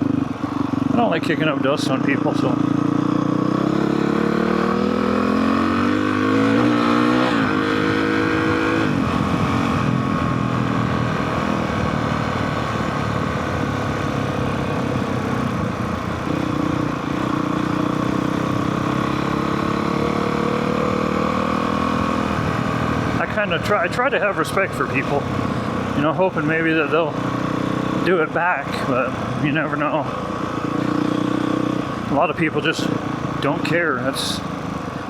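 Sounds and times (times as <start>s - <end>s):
dirt bike engine: 0.0s - 35.0s.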